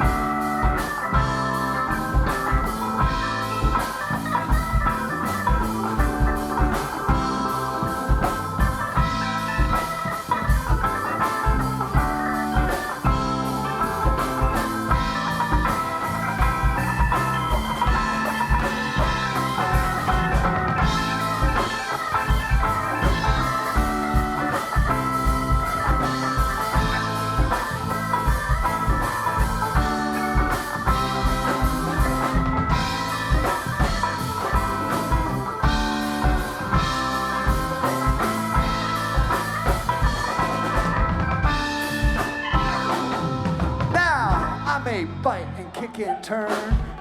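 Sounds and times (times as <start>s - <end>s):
drum kit beat: 0.0s - 47.0s
electric guitar: 0.0s - 47.0s
organ: 0.0s - 47.0s.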